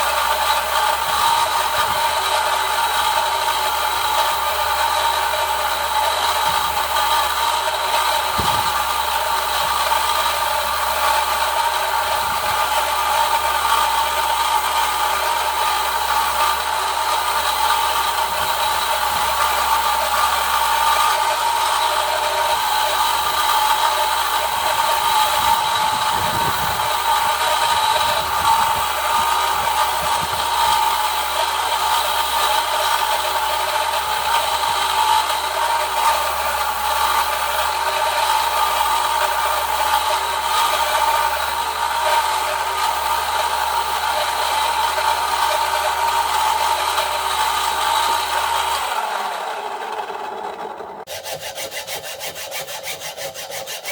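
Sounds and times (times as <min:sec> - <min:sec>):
power tool grinding steel: 0:00.0 - 0:53.9.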